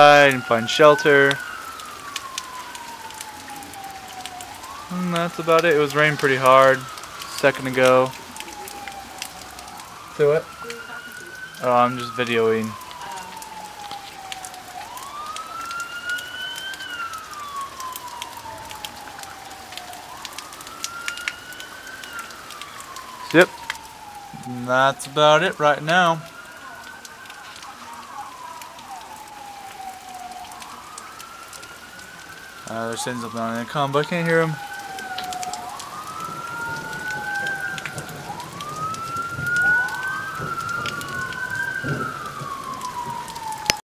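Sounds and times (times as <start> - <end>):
light rain pattering: 0.0 - 43.8
police siren wailing: 0.0 - 43.8.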